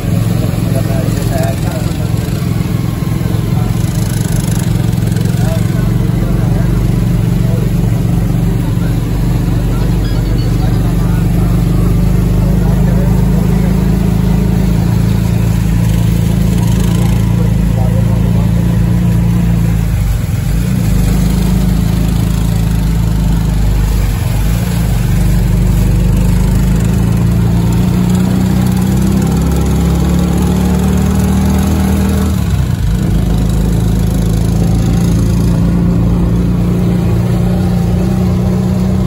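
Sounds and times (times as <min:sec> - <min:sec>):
small motorcycle engine running: 0:00.0 - 0:39.0.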